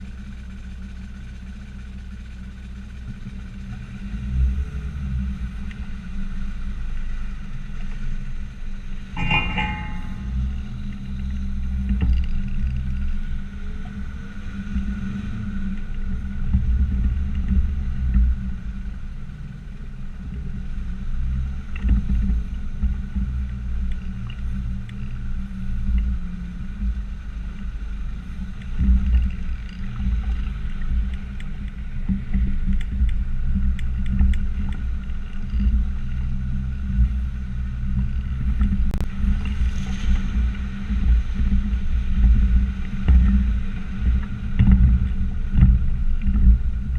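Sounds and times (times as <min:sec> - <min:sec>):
diesel engine droning under load: 0:00.0 - 0:46.9.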